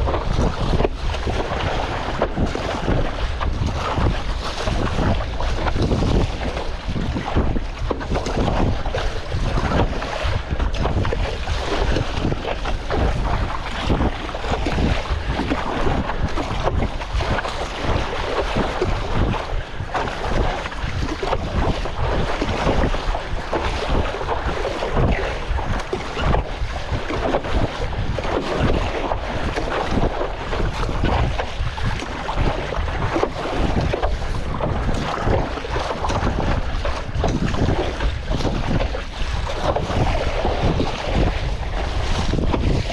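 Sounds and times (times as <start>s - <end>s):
sea water sloshing and splashing: 0.0s - 42.9s
wind buffeting microphone: 0.0s - 42.9s.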